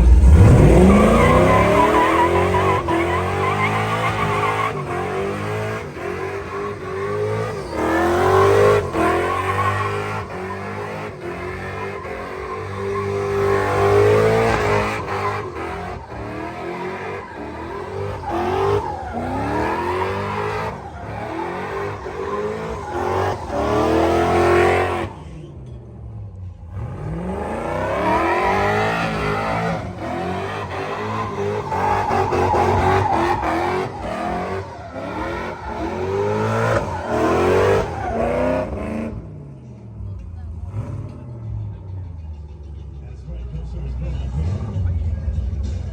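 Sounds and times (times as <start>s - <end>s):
tire squeal: 0.0s - 25.8s, 26.8s - 39.0s
truck engine revving: 0.0s - 25.8s, 26.6s - 39.4s.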